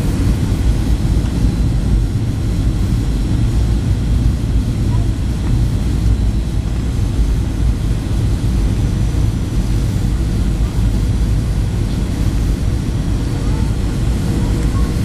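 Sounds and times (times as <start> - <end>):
jet engines in airplane cabin: 0.0 - 15.0.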